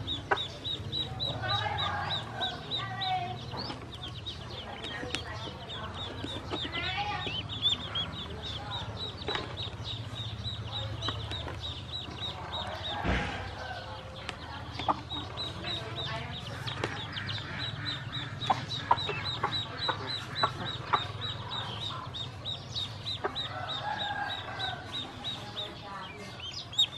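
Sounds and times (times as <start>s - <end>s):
ducklings peeping: 0.0s - 26.9s.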